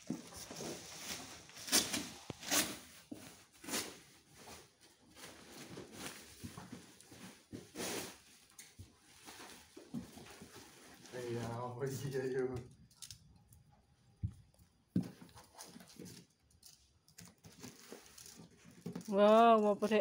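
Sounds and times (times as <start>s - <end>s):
cardboard and plastic rustling: 0.0s - 12.5s, 14.2s - 20.0s.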